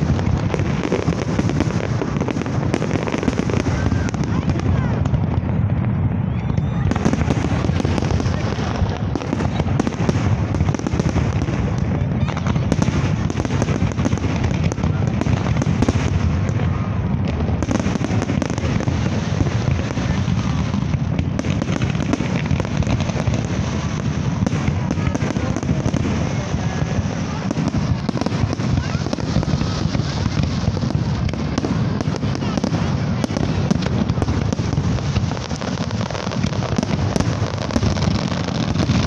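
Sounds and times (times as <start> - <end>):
fireworks booming: 0.0 - 39.0
fireworks cracking: 0.0 - 39.0.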